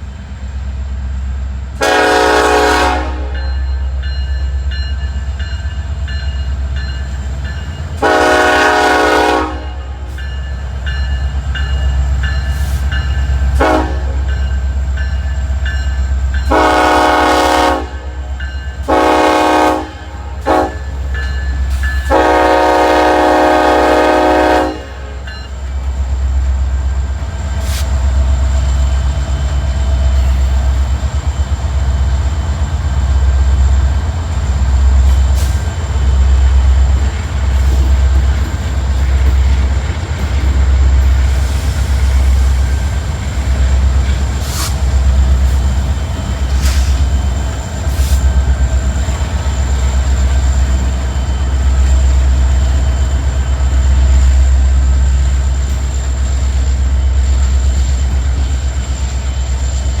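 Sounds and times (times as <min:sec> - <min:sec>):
freight train cars rolling: 0:00.0 - 1:00.0.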